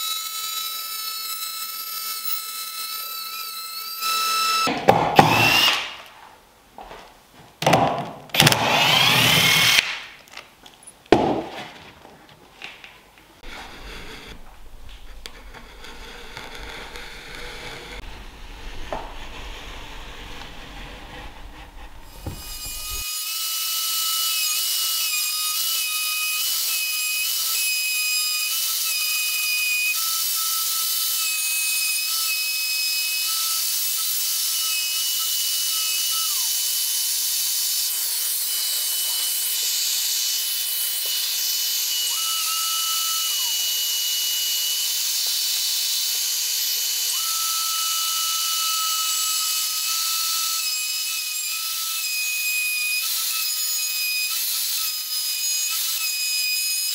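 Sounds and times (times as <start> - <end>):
router whining and cutting wood: 0.0 - 6.0, 8.3 - 10.4, 13.4 - 56.9.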